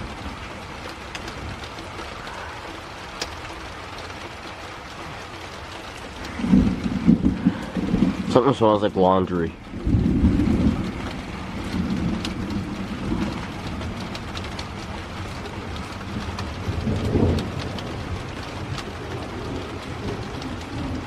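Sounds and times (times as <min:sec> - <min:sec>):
rolling thunder: 0:00.0 - 0:02.4, 0:05.4 - 0:21.0
rain falling: 0:00.0 - 0:21.0
raindrops tapping: 0:00.0 - 0:21.0.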